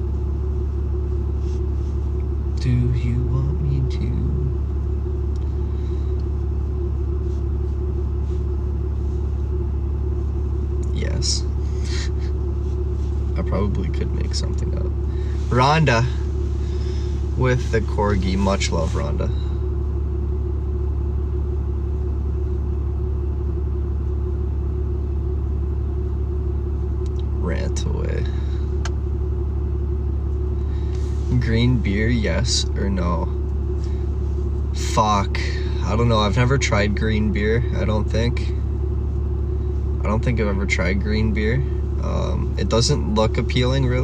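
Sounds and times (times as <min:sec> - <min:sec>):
constant hum: 0:00.0 - 0:44.0
truck engine rumble: 0:00.0 - 0:44.0.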